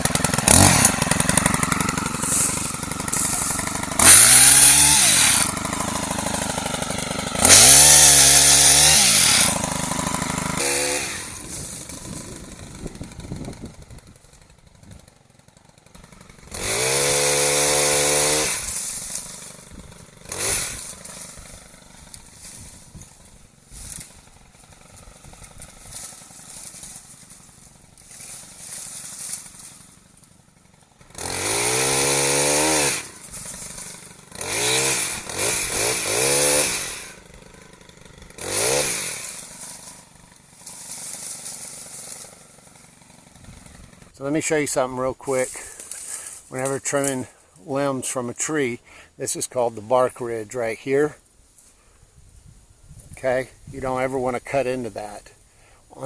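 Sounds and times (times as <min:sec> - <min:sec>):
chainsaw engine revving: 0:00.0 - 0:51.2, 0:53.2 - 0:56.0
chainsaw idling: 0:00.0 - 0:52.1, 0:53.2 - 0:56.0.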